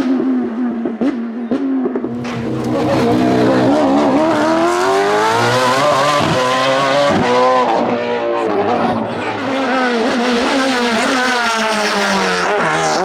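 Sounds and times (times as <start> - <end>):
race car engine accelerating: 2.0 - 13.0.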